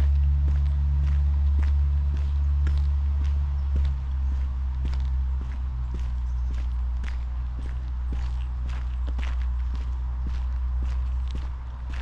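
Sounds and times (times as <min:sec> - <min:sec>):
footsteps walking: 0:00.0 - 0:12.0
steady low rumble: 0:00.0 - 0:12.0.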